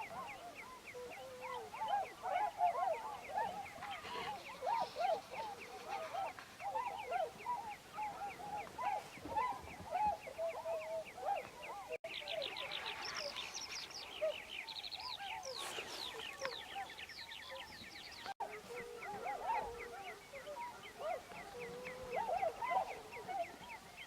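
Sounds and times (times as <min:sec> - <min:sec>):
waterbirds calling: 0:00.0 - 0:24.0.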